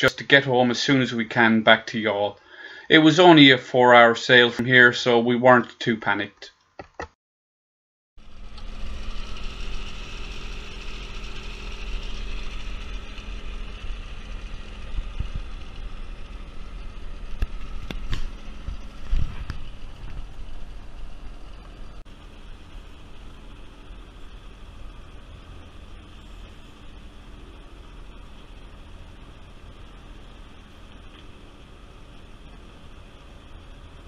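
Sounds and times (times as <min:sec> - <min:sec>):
steady low hum: 0:00.0 - 0:06.4, 0:08.2 - 0:34.0.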